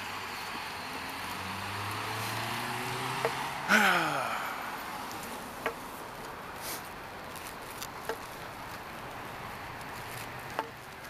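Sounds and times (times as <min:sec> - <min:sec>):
roadside background hiss: 0:00.0 - 0:11.0.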